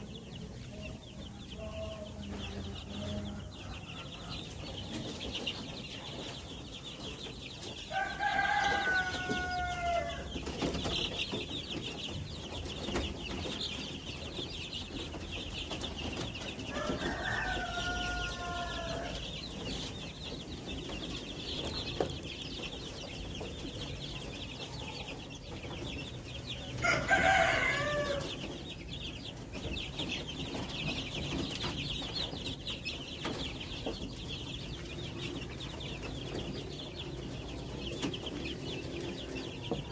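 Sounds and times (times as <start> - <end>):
chicks peeping: 0.0 - 39.9
drawn-out chicken calls: 1.6 - 39.9.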